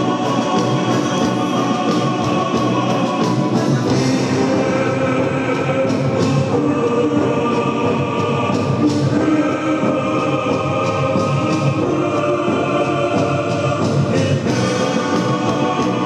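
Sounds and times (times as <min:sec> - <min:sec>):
choir singing with music: 0:00.0 - 0:16.0.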